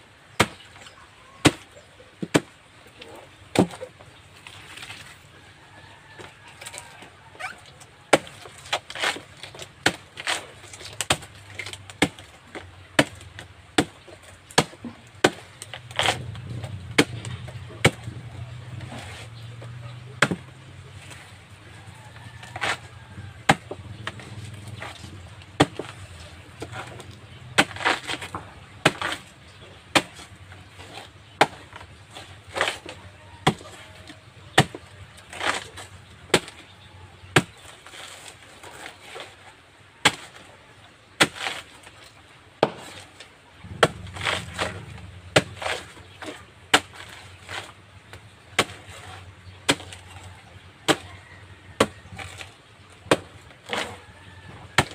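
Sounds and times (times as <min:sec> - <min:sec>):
machete chopping: 0:00.4 - 0:00.7, 0:01.4 - 0:02.6, 0:03.5 - 0:04.6, 0:06.7 - 0:39.3, 0:40.0 - 0:40.4, 0:41.2 - 0:41.8, 0:42.6 - 0:54.9.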